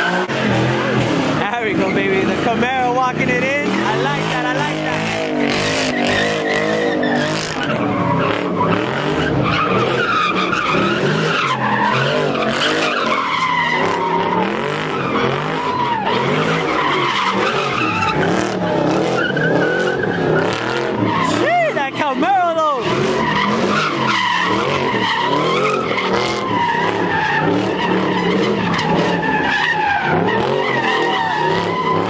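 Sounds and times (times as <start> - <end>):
car engines revving hard: 0.0 - 32.0
tyres squealing: 0.0 - 32.0.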